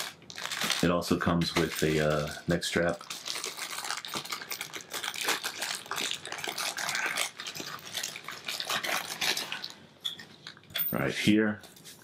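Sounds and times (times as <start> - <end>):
packaging rustling and crinkling: 0.0 - 10.6.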